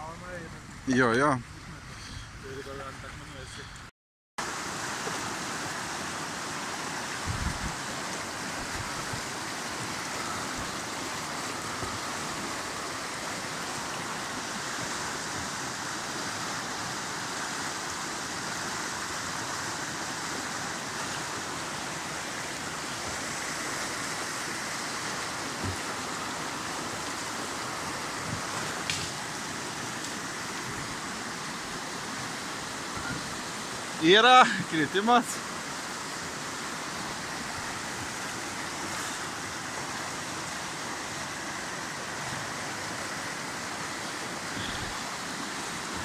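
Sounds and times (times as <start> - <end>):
river rapids rushing: 4.4 - 46.0.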